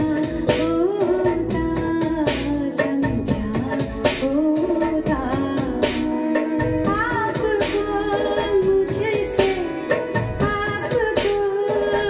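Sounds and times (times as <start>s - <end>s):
percussion: 0.0s - 12.0s.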